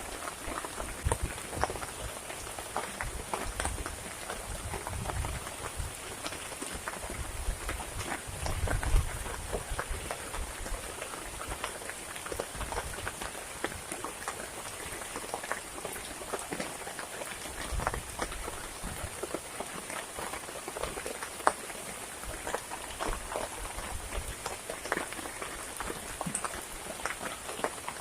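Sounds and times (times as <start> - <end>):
heavy rain pattering: 0.0 - 28.0.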